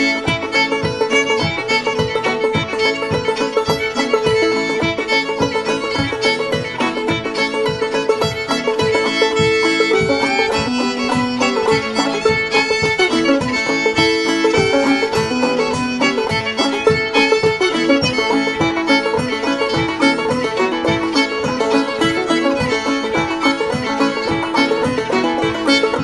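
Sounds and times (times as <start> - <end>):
old-time fiddle tune: 0.0 - 26.0
picked banjo rhythm: 0.0 - 26.0.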